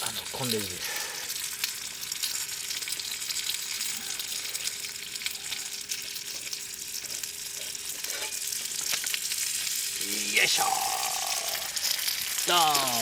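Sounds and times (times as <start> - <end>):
food sizzling over campfire: 0.0 - 13.0.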